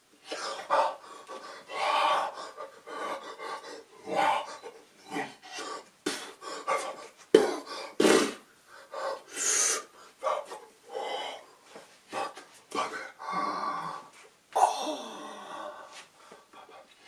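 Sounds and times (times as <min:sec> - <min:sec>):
man breathing and mouth sounds: 0:00.1 - 0:17.0.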